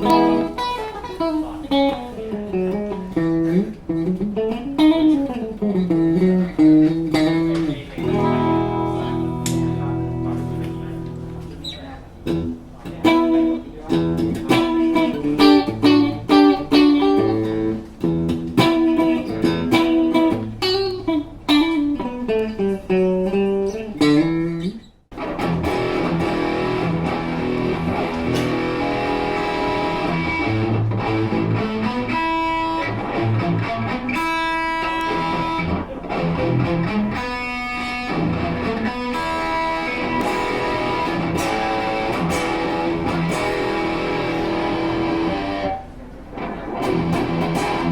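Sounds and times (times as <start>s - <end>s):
electric guitar notes: 0.0s - 47.9s.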